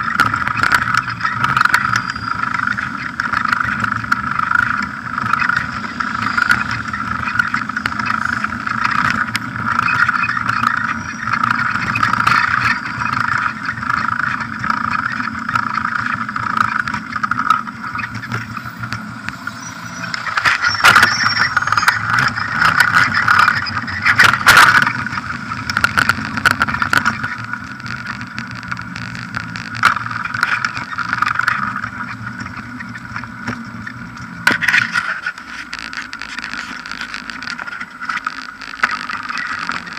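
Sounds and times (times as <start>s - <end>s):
bicycle tyres on paving: 0.0s - 39.9s
wind noise: 0.0s - 39.9s.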